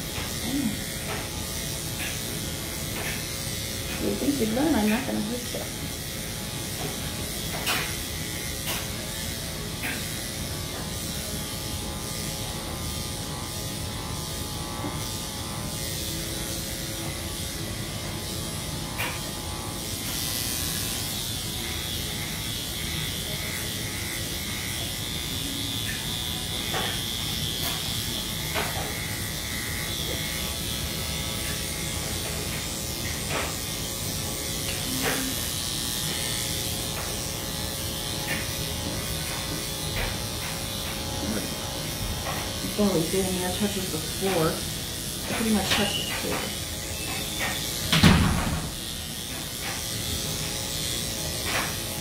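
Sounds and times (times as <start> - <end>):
electric clippers running: 0.0 - 52.0.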